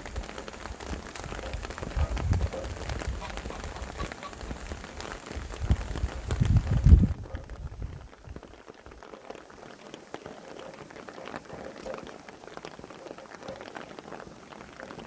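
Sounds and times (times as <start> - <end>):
rain pattering on a surface: 0.0 - 15.0.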